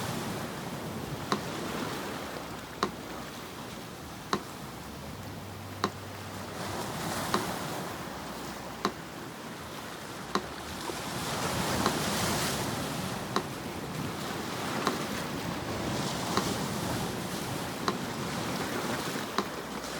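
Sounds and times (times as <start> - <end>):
sea surf washing: 0.0 - 19.9
metronome ticking: 1.0 - 9.3, 10.2 - 10.8, 11.5 - 13.8, 14.6 - 19.9.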